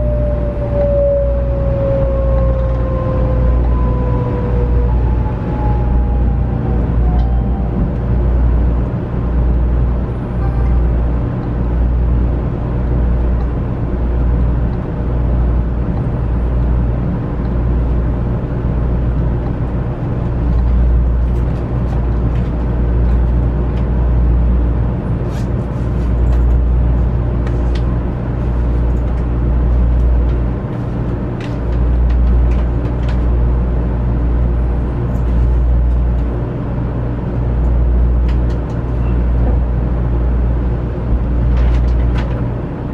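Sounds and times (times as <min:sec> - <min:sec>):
deep train rumble: 0:00.0 - 0:42.9.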